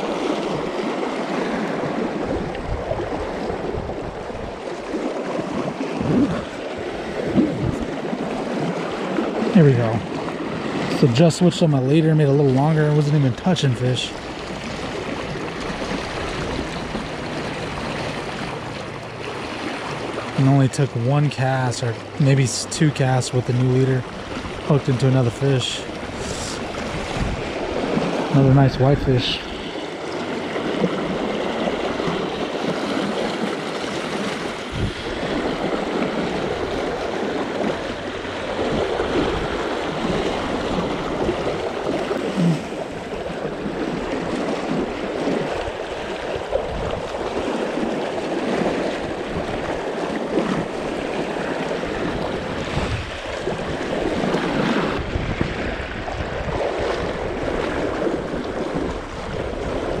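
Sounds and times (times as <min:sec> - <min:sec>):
river water rushing: 0:00.0 - 1:00.0
wind buffeting microphone: 0:00.0 - 1:00.0.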